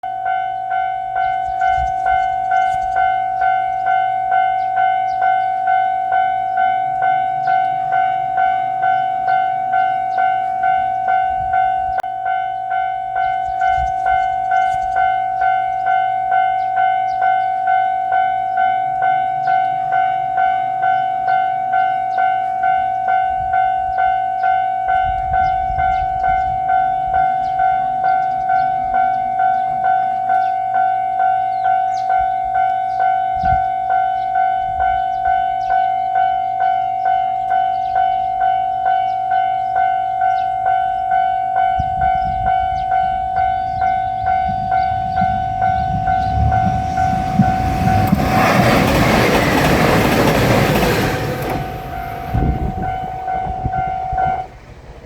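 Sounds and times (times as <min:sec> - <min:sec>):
level crossing warning bell: 0:00.0 - 0:55.0.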